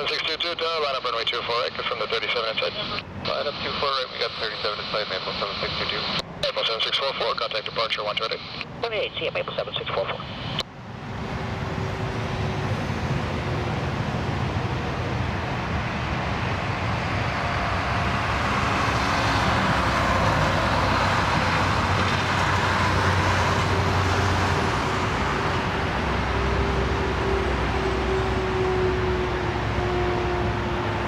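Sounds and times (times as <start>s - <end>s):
jet airliner landing: 0.0s - 31.0s
jet engine whine: 0.0s - 31.0s.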